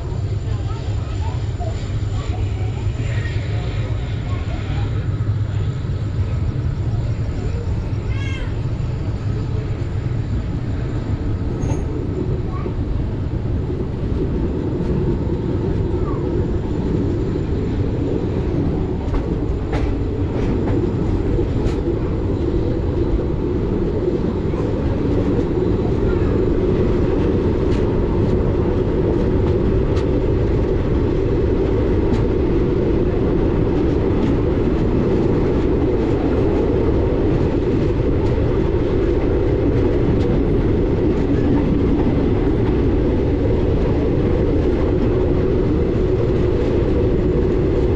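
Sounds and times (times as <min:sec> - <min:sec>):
train rumbling on tracks: 0:00.0 - 0:47.9
rail clicks: 0:00.2 - 0:47.9.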